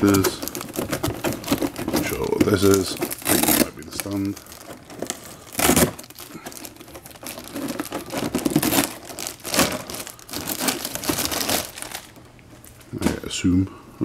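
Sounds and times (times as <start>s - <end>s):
plastic wrapping crinkling: 0.0s - 13.4s.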